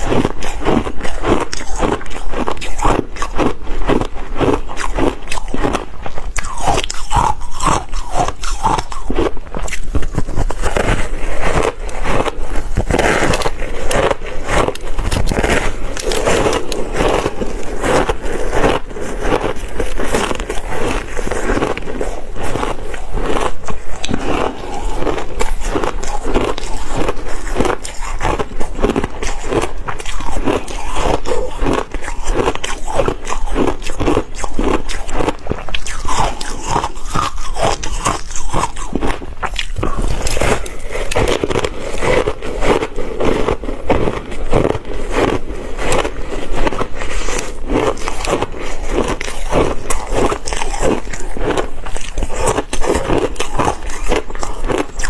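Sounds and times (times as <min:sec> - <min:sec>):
ice crunching while chewing: 0:00.0 - 0:55.0.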